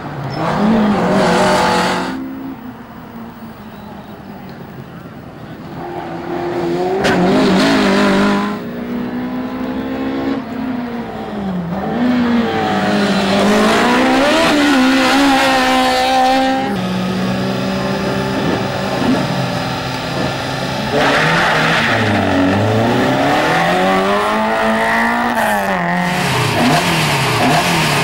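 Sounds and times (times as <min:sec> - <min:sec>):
rally car engines revving: 0:00.0 - 0:02.8, 0:05.1 - 0:28.0.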